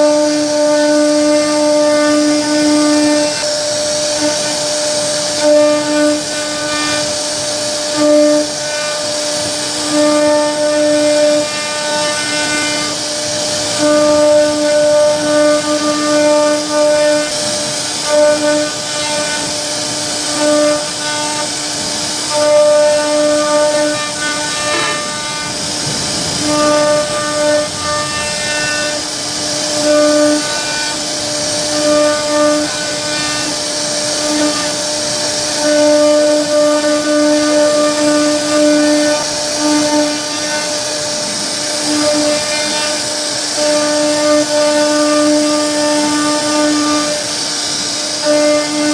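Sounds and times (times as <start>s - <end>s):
cutter chipping wood hiss: 0.0s - 48.9s
router spindle whine: 0.0s - 48.9s.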